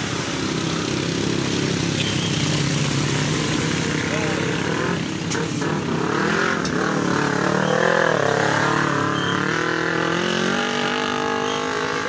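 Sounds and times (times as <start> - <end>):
car engine: 0.0 - 12.0
motorcycle engine revving: 0.0 - 12.0.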